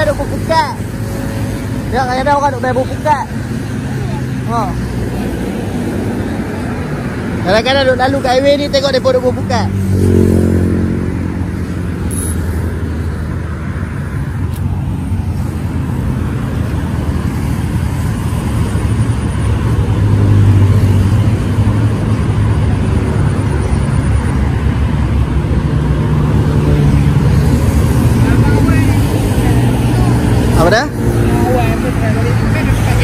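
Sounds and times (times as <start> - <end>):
highway traffic drone: 0.0 - 33.0.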